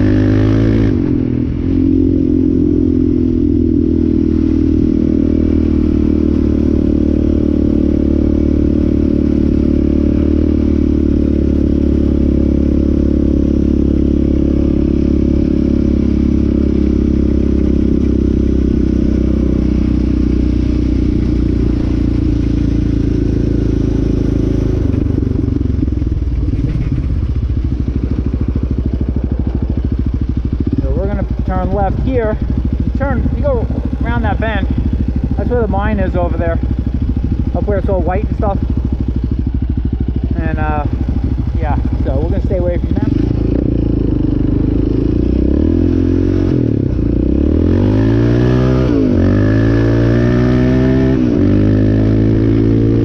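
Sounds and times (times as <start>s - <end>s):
quad engine running: 0.0s - 53.0s.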